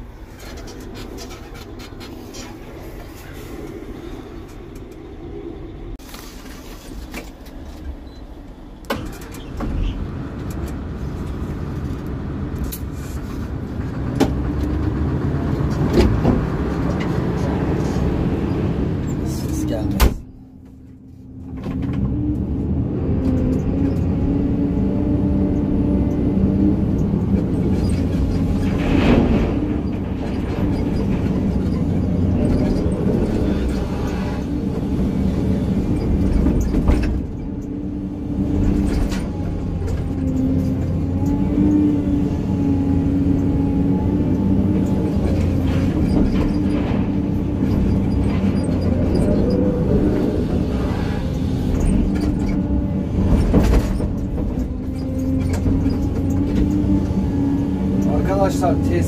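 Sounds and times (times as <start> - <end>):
excavator engine and hydraulic whine: 0.0 - 59.0.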